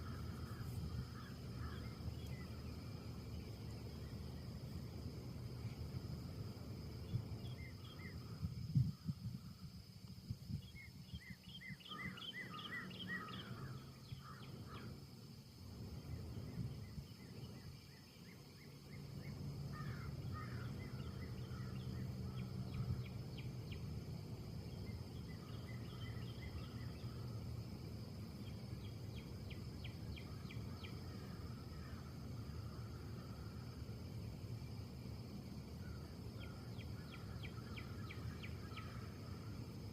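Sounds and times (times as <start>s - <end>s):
small birds chirping: 0.0s - 5.9s, 6.8s - 9.1s, 10.5s - 15.0s, 16.0s - 33.4s, 35.8s - 39.8s
low steady rumble: 0.0s - 11.2s, 13.2s - 39.9s.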